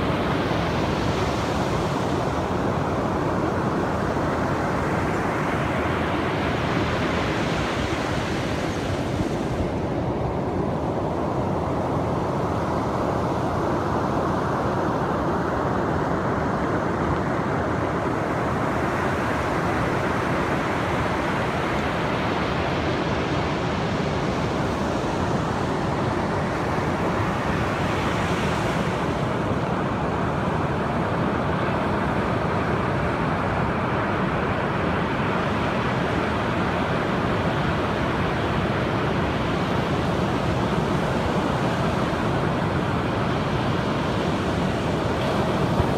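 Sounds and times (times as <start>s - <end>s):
ocean surf roar: 0.0s - 45.9s
waves breaking hiss: 0.0s - 45.9s.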